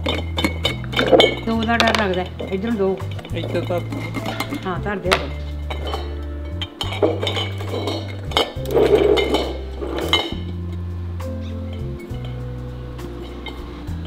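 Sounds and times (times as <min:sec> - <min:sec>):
background music with bass: 0:00.0 - 0:14.0.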